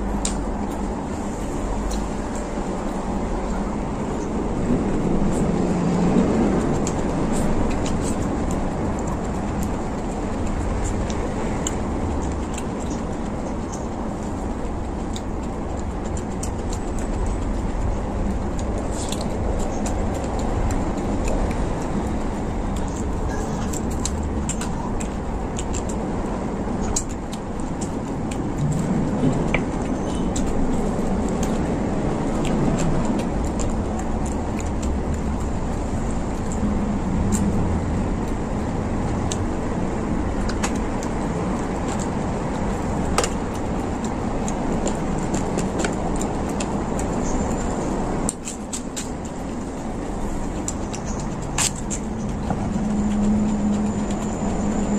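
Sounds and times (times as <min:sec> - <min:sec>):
person eating and chewing: 0:00.0 - 0:54.9
steady low rumble: 0:00.0 - 0:54.9.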